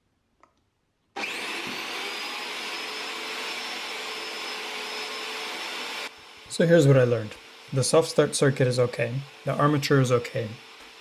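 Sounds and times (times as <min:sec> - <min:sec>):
electric motor whining: 0:01.2 - 0:11.0.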